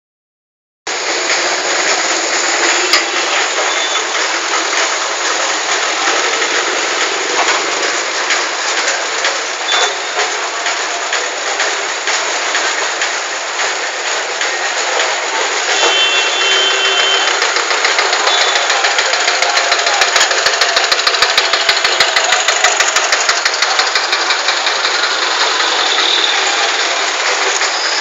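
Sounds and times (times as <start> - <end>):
general street bustle: 0.9 - 28.0
vehicle traffic: 0.9 - 28.0.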